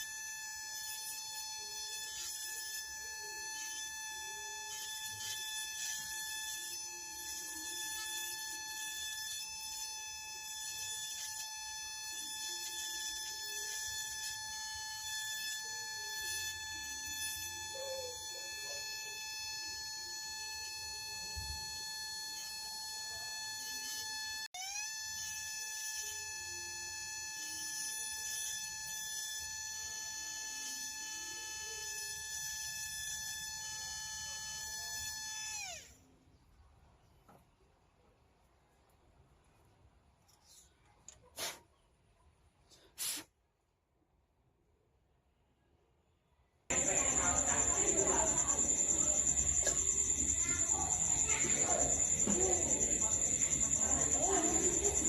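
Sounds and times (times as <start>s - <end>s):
small electric motor whining: 0.0s - 36.0s, 46.7s - 55.0s.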